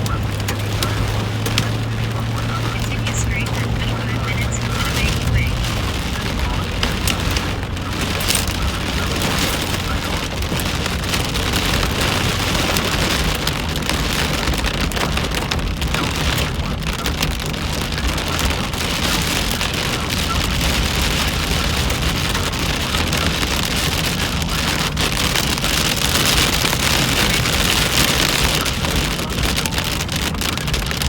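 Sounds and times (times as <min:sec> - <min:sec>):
rain and hail on car roof: 0:00.0 - 0:31.0.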